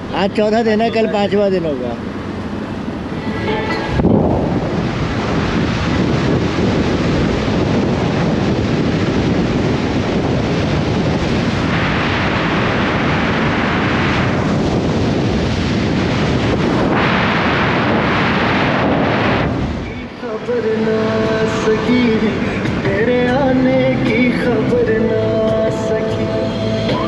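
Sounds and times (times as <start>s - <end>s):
road noise: 0.0s - 27.0s
wind rushing over microphone: 0.0s - 27.0s.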